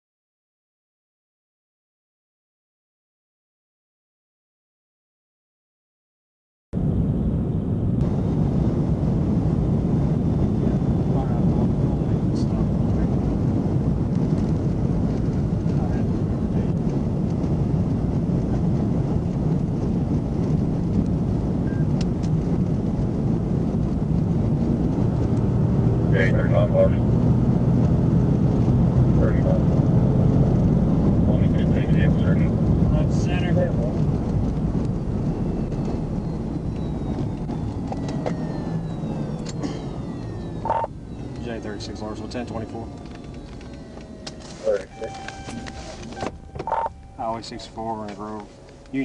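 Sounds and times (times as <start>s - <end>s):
car road and engine rumble: 6.8s - 49.0s.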